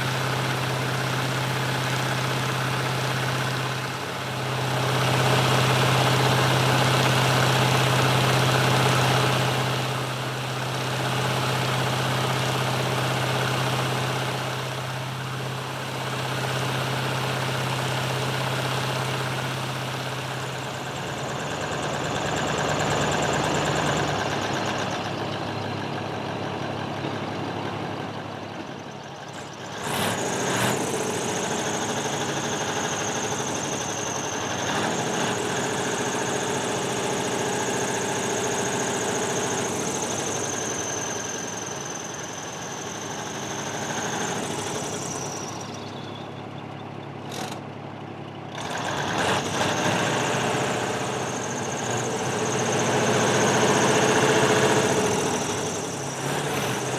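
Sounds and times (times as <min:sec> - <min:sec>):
diesel engine clattering: 0:00.0 - 0:56.9.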